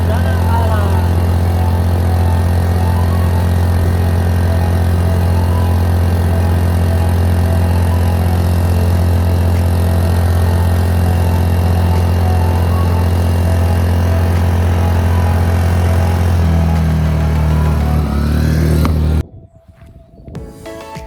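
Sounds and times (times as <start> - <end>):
motor humming: 0.0 - 19.2.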